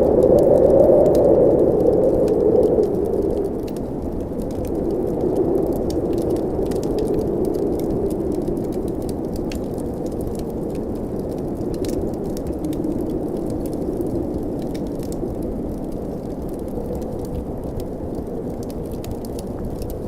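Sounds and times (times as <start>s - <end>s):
blizzard wind blowing: 0.0s - 20.0s
wood fire crackling: 0.0s - 20.0s.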